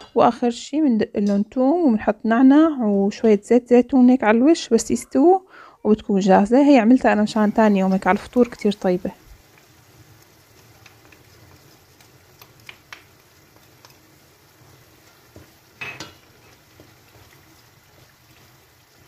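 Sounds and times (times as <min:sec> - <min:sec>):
faint sizzle in pot: 0:01.2 - 0:19.0.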